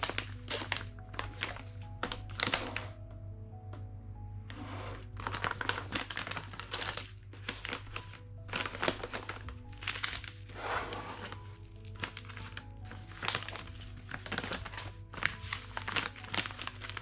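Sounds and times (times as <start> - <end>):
packaging crinkling: 0.0 - 3.0, 5.0 - 17.0
soft background music: 0.0 - 17.0.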